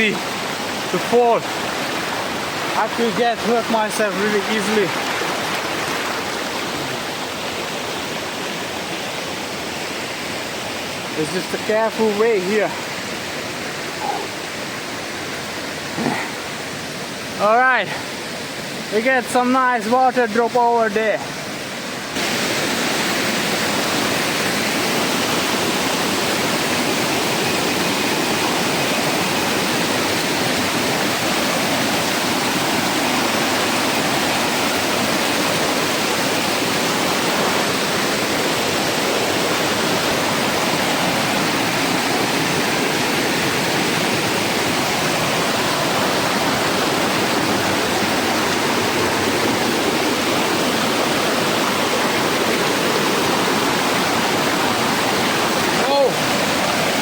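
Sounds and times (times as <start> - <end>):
river rushing over stones: 0.0 - 57.0.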